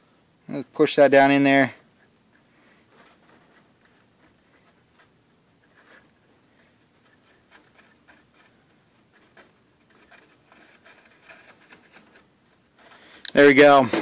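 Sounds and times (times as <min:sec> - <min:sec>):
soldering iron scratching plastic: 0:01.2 - 0:13.8.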